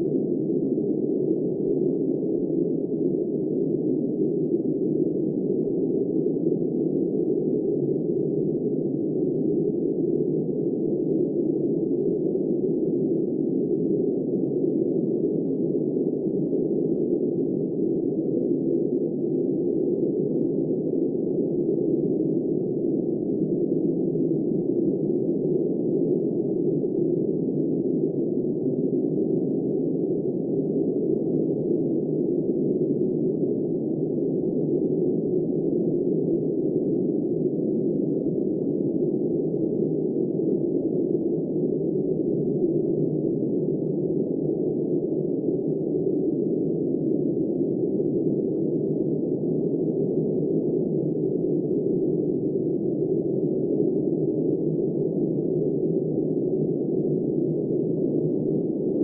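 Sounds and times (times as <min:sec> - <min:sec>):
muffled blizzard wind: 0:00.0 - 0:59.0.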